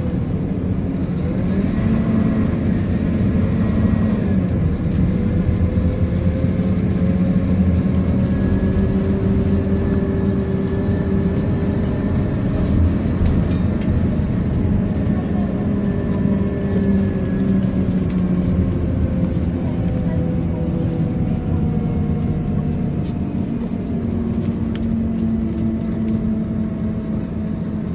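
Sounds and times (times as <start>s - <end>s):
bus diesel engine drone: 0.0s - 27.9s
road and tyre noise: 0.0s - 27.9s.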